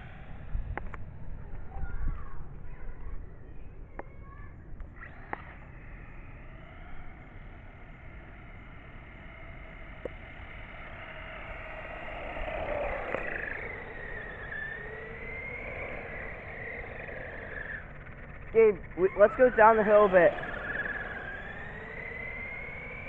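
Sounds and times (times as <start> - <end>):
rc car motor whining: 0.0 - 1.8, 4.0 - 23.0.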